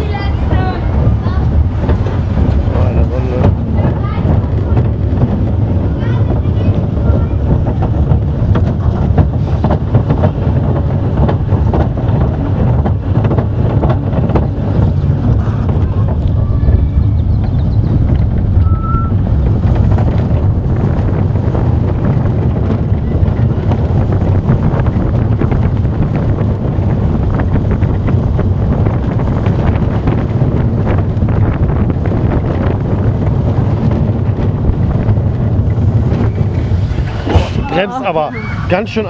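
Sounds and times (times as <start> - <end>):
roller coaster rumble and rattle: 0.0 - 39.0
wind buffeting microphone: 0.0 - 39.0.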